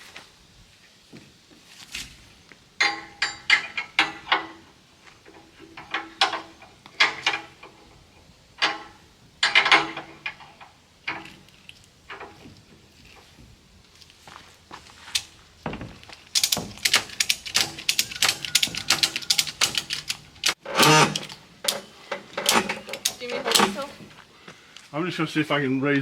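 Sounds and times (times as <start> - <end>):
metal clanking: 2.8 - 14.4, 15.0 - 24.2.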